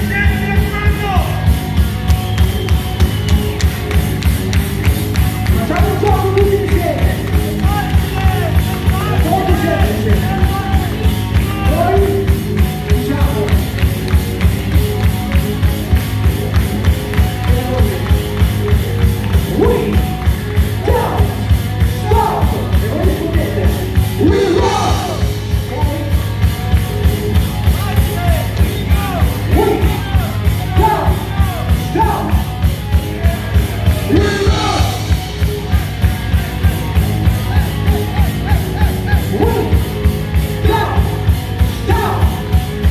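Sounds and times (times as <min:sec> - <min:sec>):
heavy metal band playing: 0:00.0 - 0:42.9.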